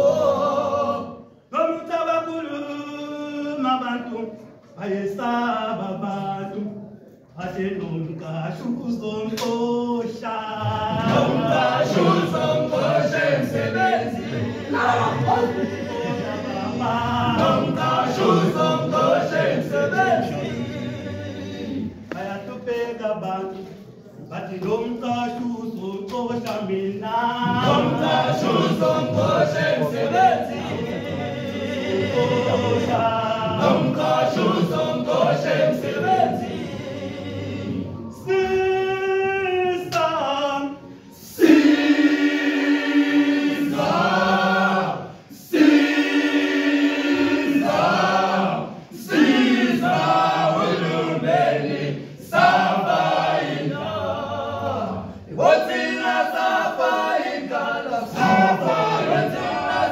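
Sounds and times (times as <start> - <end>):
male choir singing in harmony: 0.0 - 6.8, 7.4 - 59.9.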